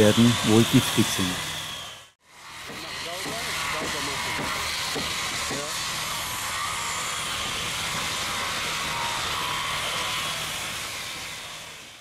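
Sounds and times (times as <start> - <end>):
electric sander on wood: 0.0 - 12.0.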